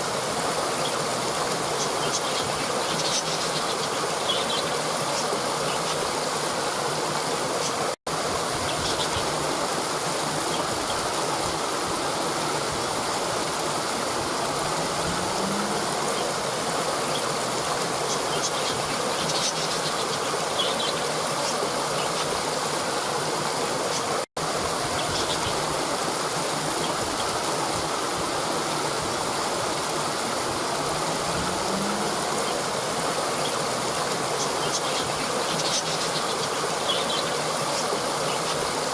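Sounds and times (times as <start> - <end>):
waterfall pouring over rocks: 0.0 - 38.9.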